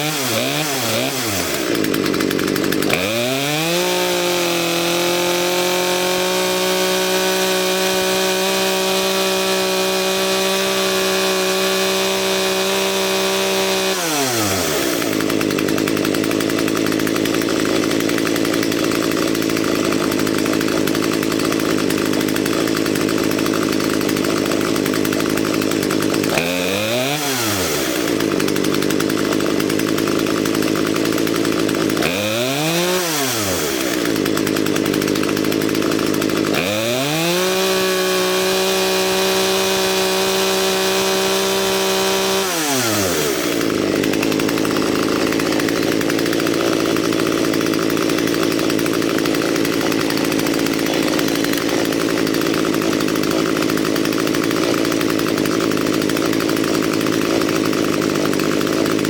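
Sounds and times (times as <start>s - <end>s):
chainsaw engine revving and idling: 0.0s - 59.0s.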